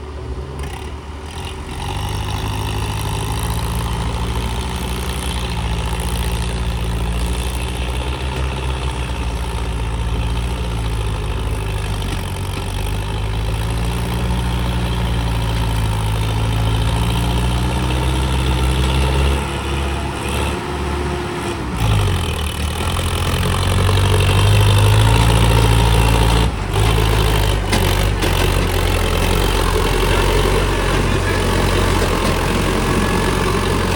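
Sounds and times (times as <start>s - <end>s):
diesel tractor engine running: 0.0s - 33.9s.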